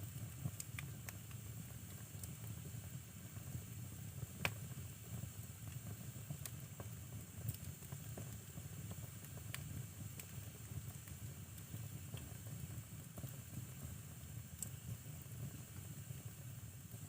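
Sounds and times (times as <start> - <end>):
fire rumbling and hissing: 0.0 - 17.0
firewood crackling and popping: 0.1 - 2.7, 3.5 - 16.3.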